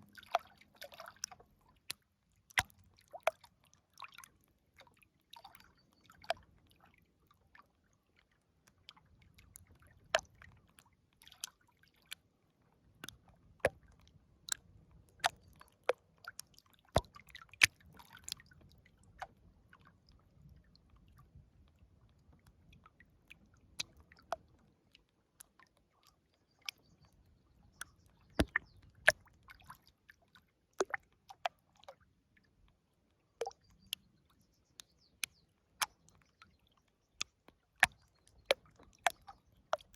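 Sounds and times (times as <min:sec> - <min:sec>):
water drips and splashes: 0:00.0 - 0:39.9.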